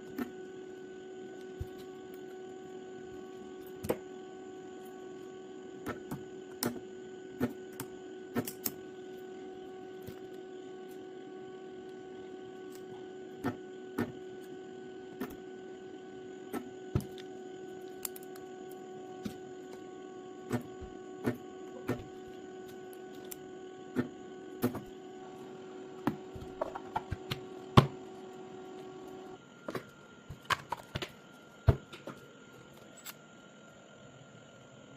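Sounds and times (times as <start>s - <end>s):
steady electrical hum: 0.0s - 34.9s.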